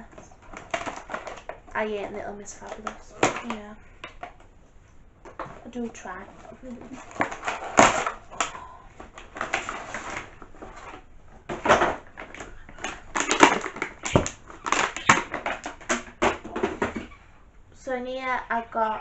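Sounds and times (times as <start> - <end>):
gift packaging crinkling and rustling: 0.0 - 1.8, 2.4 - 4.6, 5.3 - 17.1.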